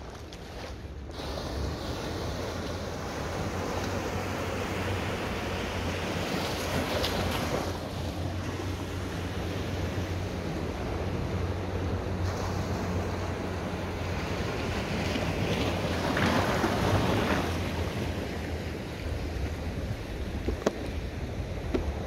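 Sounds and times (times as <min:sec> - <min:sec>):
sea water washing: 0:00.0 - 0:22.0
wind rumbling on microphone: 0:00.0 - 0:22.0.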